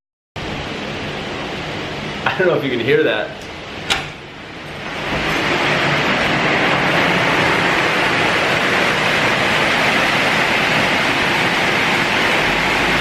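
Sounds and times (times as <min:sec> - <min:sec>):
heavy rain downpour: 0:00.4 - 0:13.0.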